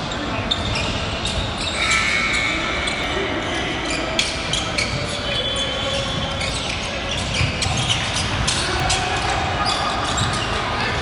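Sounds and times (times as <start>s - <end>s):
sneaker squeaks: 0.0s - 11.0s.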